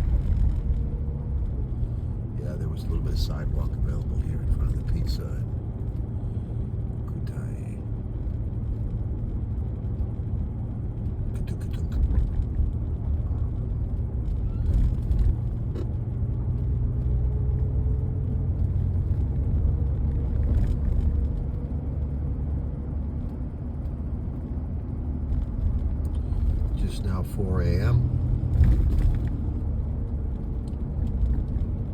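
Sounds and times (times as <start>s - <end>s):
engine and tyre rumble: 0.0s - 31.9s.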